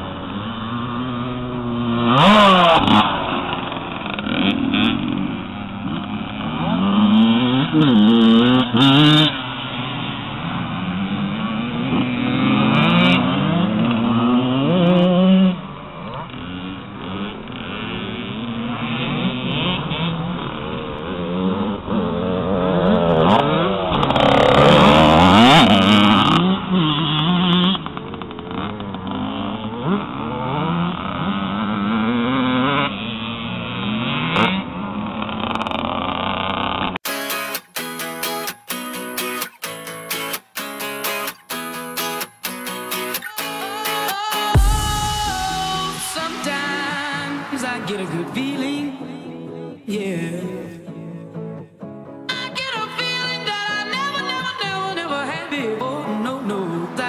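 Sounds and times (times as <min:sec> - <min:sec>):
motocross bike engines revving: 0:00.0 - 0:37.0, 0:39.4 - 0:49.9, 0:53.4 - 0:57.0.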